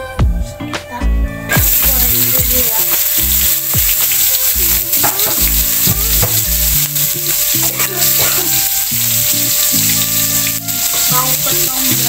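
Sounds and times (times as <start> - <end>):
background music: 0.0 - 12.0
food sizzling in hot oil: 1.5 - 12.0.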